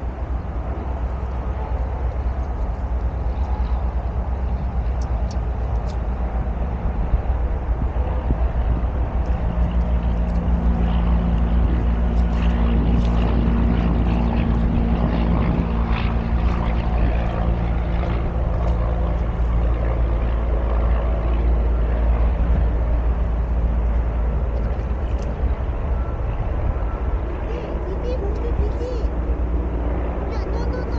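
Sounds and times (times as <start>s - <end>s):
distant engine drone: 0.0s - 30.9s
wind buffeting microphone: 0.0s - 30.9s.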